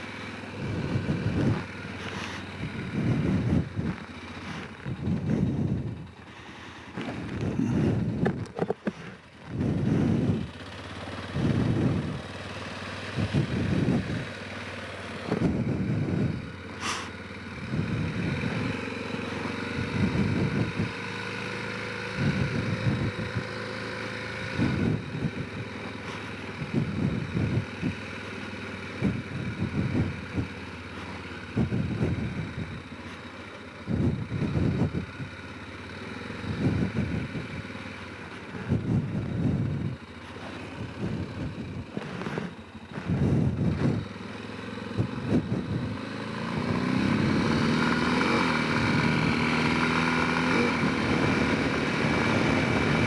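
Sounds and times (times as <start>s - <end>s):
atv engine rumbling: 0.0s - 53.0s.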